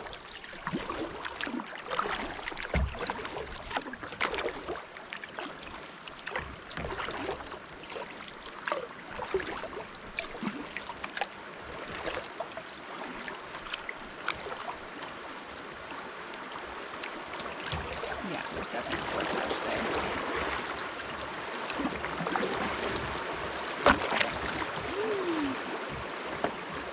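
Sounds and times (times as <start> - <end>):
creek water rushing: 0.0 - 5.8, 6.8 - 26.9
water splashes and drips: 0.0 - 26.9.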